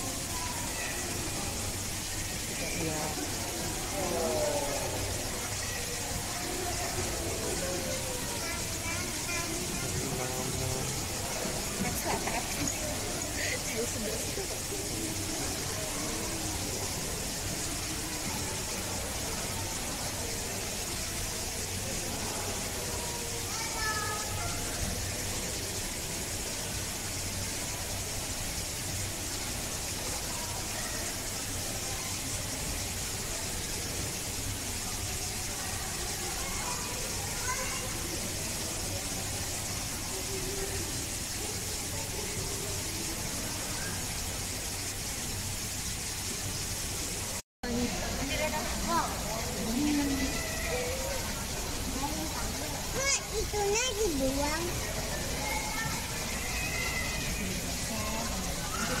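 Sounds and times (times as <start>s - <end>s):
background hiss: 0.0s - 59.0s
faint distant voices: 0.0s - 59.0s.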